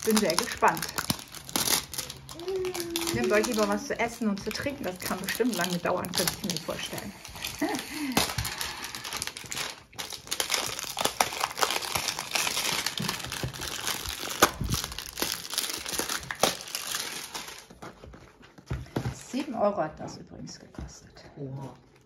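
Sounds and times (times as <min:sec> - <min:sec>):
packaging crinkling and rustling: 0:00.0 - 0:19.6.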